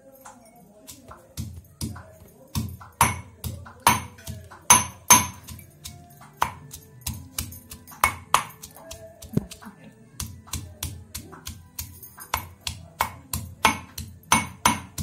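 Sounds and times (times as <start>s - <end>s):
pestle pounding in mortar: 0.9s - 15.0s.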